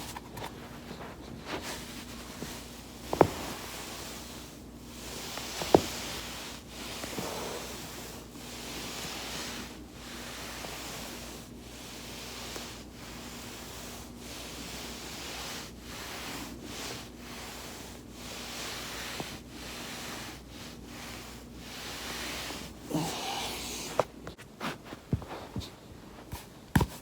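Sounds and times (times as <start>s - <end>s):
foam roller swishing rub: 0.0s - 27.0s.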